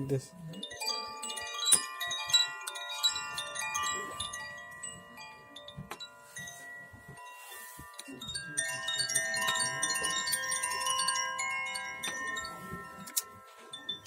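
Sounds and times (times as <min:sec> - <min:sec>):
metal wind chimes ringing: 0:00.0 - 0:14.0.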